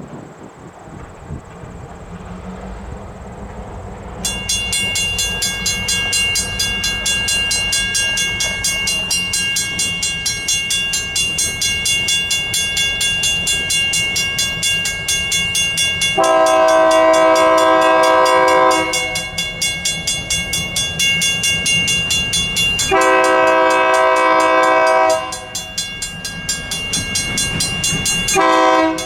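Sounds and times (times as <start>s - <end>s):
train rumble: 0.0s - 29.0s
railroad crossing bell ringing: 4.1s - 29.0s.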